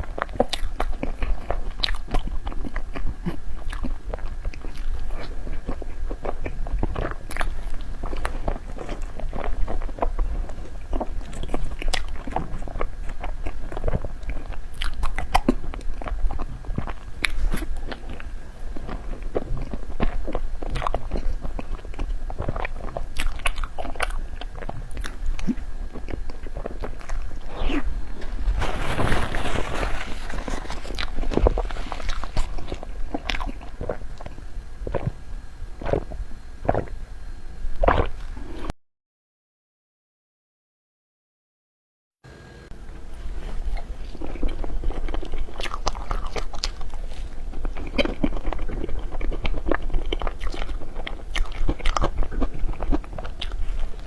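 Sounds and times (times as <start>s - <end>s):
biting and chewing soft food: 0.0s - 38.7s, 42.7s - 54.0s.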